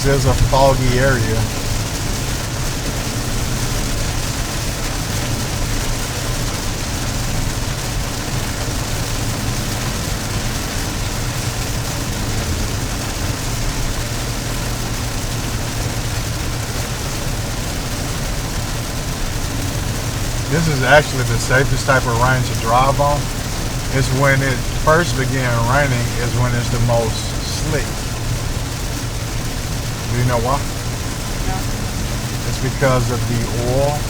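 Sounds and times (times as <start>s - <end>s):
car engine drone: 0.0s - 34.0s
tyre hiss on wet road: 0.0s - 34.0s.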